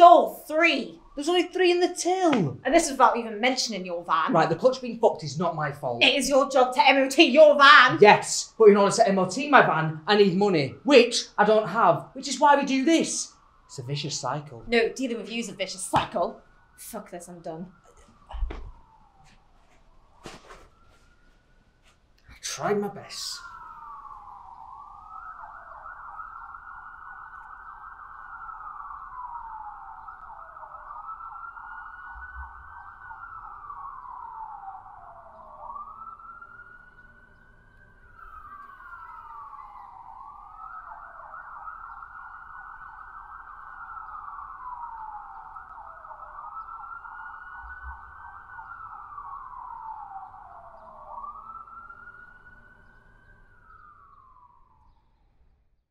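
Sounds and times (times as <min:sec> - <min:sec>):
police siren wailing: 0:00.0 - 0:55.4.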